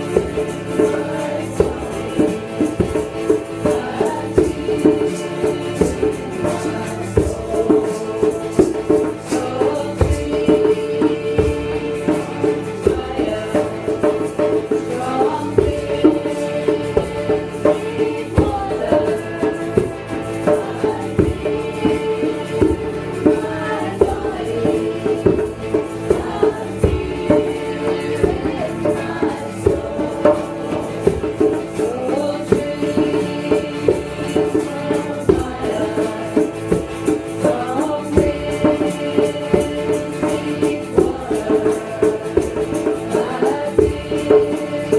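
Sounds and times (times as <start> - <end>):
drum strokes: 0.0 - 44.9
person singing: 0.0 - 44.9
shaker rattling: 0.0 - 44.9
steady drone: 0.0 - 44.9.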